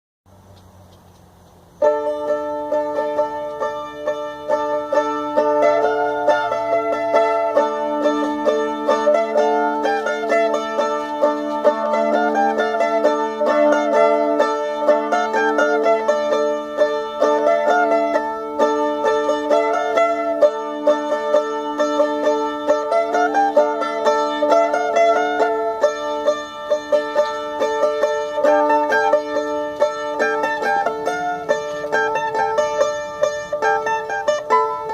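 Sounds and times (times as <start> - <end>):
mandolin rapid picking: 1.8 - 34.9.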